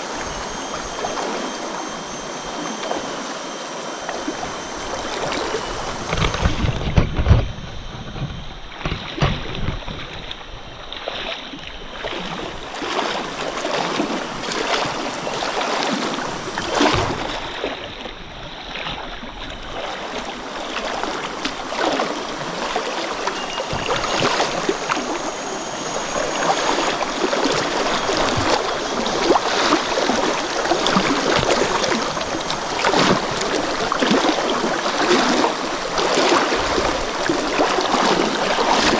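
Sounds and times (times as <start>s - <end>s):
stream water rushing: 0.0s - 7.3s, 8.5s - 38.9s.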